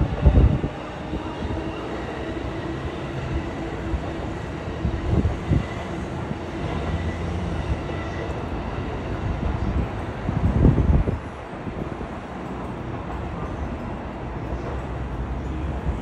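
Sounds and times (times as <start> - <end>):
electric train rumbling past: 0.0 - 16.0.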